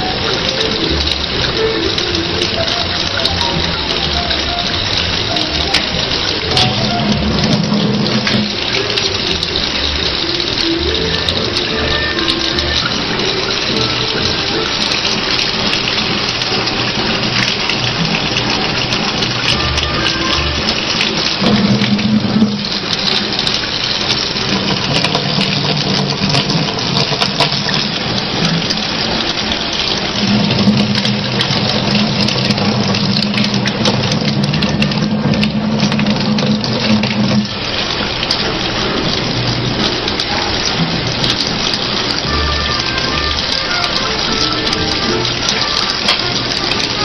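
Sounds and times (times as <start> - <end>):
tap water running into sink: 0.0 - 47.0.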